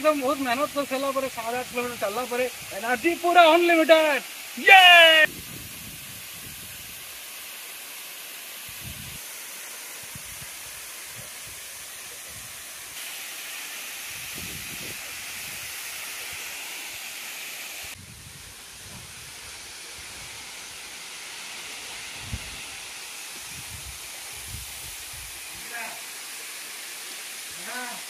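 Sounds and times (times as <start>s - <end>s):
waterfall rushing hiss: 0.0s - 28.0s.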